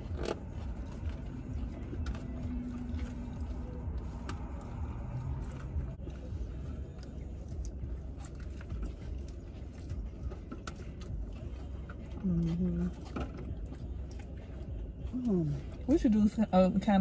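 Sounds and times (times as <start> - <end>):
chewing: 0.0 - 16.1
low car rumble: 0.0 - 17.0.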